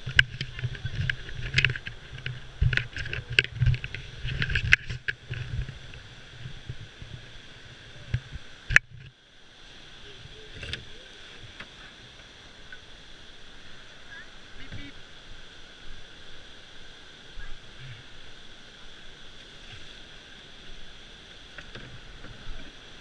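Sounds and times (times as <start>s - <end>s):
rushing white water: 0.0s - 23.0s.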